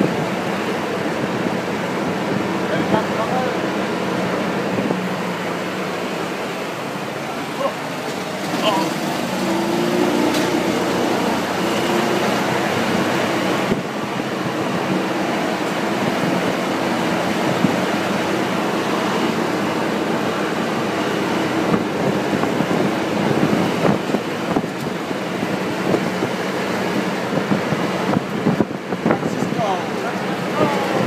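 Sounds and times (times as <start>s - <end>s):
golf cart rumbling on pavement: 0.0s - 31.0s.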